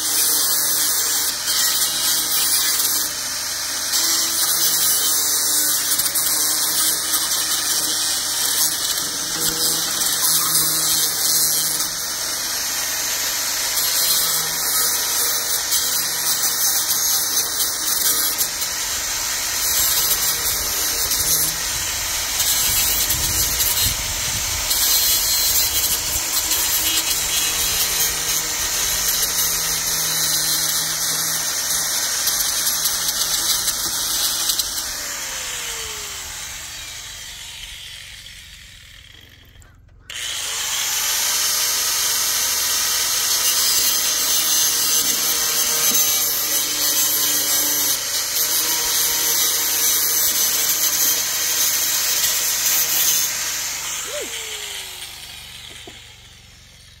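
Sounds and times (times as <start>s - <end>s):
angle grinder cutting wire mesh: 0.0s - 57.0s.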